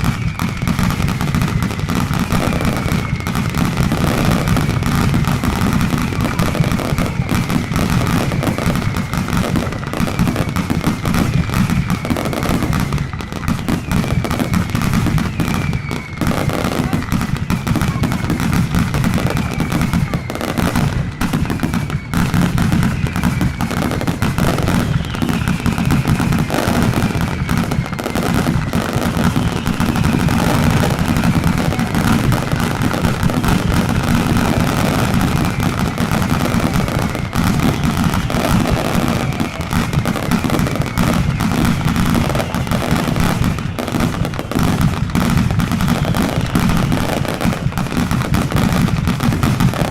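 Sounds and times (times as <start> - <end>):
short falling whistle: 0.0 - 5.1, 5.7 - 44.7
firecrackers banging rapidly: 0.0 - 49.9.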